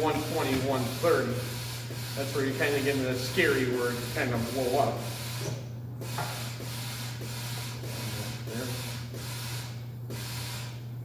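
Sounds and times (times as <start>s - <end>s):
compressed air hissing pulses: 0.0s - 10.9s
steady low hum: 0.0s - 11.0s.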